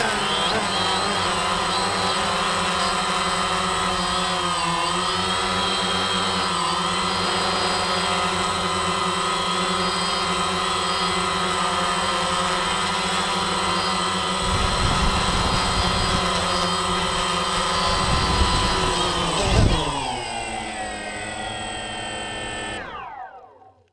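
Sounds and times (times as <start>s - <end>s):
drone propellers whining: 0.0s - 23.9s.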